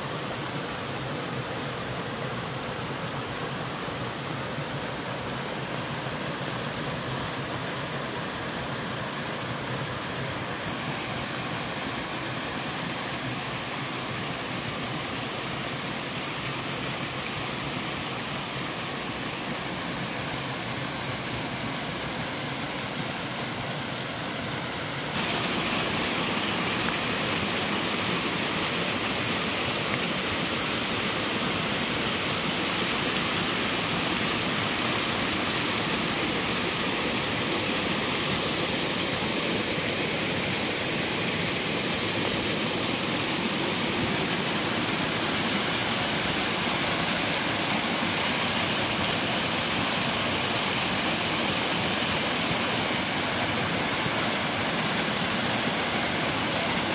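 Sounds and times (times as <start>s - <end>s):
stream water rushing over rocks: 0.0s - 56.9s.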